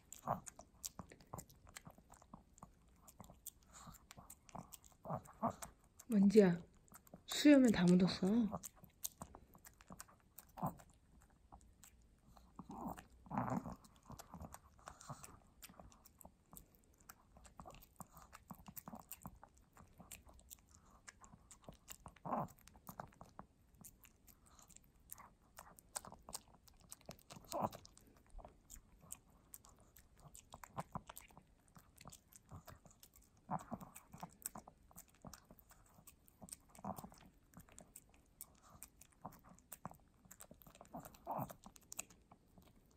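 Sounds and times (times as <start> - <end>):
dog chewing and licking: 0.0 - 42.9.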